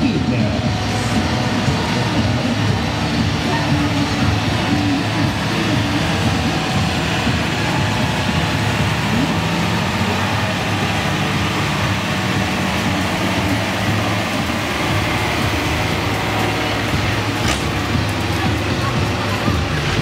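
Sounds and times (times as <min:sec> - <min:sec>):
monster truck engines droning: 0:00.0 - 0:20.0.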